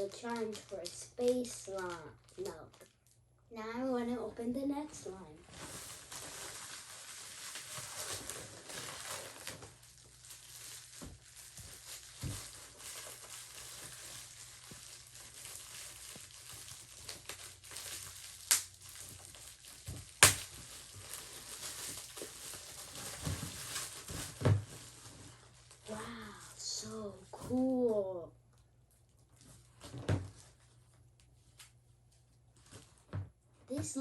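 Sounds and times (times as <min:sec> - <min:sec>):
plastic packaging crinkling: 0:00.0 - 0:03.2, 0:05.4 - 0:33.1.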